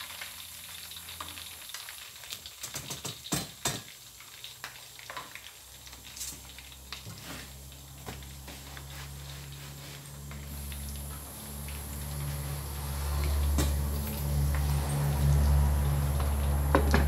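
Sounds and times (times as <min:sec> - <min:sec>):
oil sizzling in a wok: 0:00.0 - 0:17.0.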